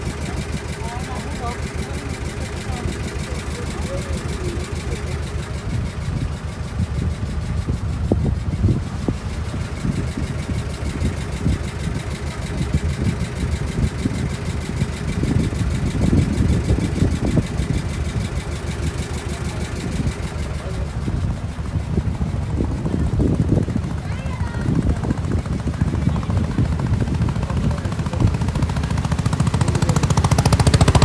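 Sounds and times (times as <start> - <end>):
boat engine rumbling: 0.0 - 31.0.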